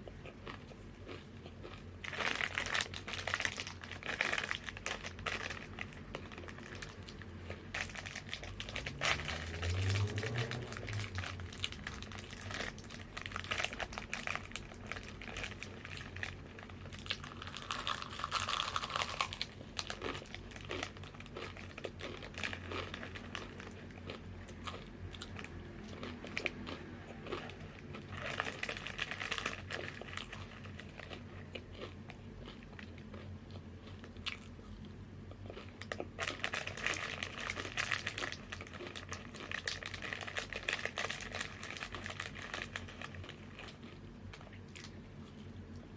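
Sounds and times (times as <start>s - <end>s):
chips crunching as chewed: 0.0s - 45.5s
plastic chip bag crinkling: 1.1s - 33.3s, 35.5s - 44.0s.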